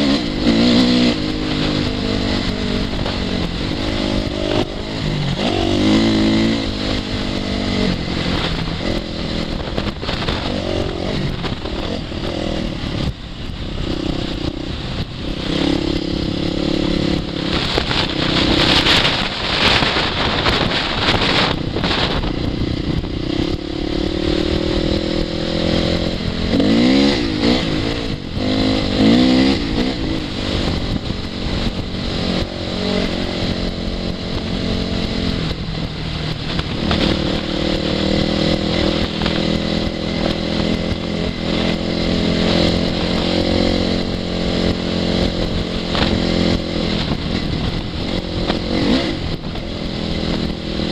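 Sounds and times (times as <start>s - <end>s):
motorcycle engine revving: 0.0s - 50.9s
wind noise: 0.0s - 50.9s.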